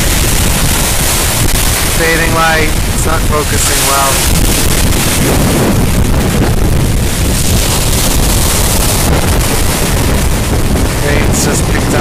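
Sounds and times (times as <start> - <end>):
strong wind gusting on microphone: 0.0 - 12.0
waves breaking: 0.0 - 12.0.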